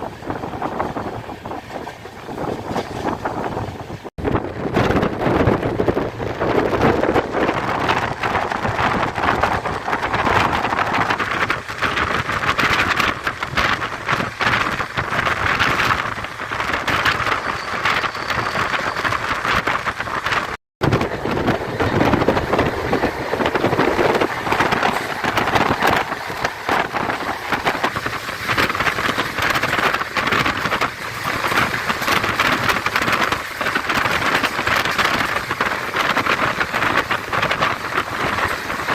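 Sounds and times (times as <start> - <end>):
train wheels on rails: 0.0 - 38.9
wind rushing: 0.0 - 38.9
rattling and clatter: 4.8 - 38.9.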